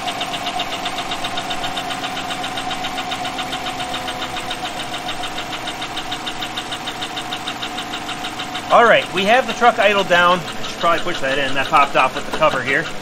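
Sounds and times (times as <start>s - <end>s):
car engine idling: 0.0s - 13.0s
quick even engine ticking: 0.0s - 13.0s.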